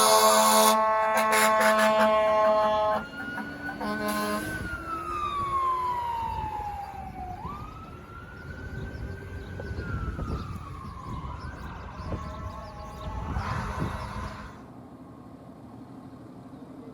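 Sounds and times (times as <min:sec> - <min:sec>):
emergency siren wailing: 0:00.0 - 0:14.7
vehicle road rumble: 0:00.0 - 0:16.9.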